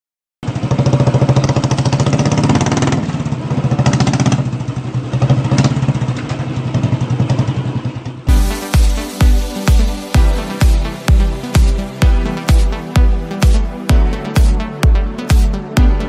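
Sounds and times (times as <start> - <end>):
motorcycle engine running: 0.4 - 16.0.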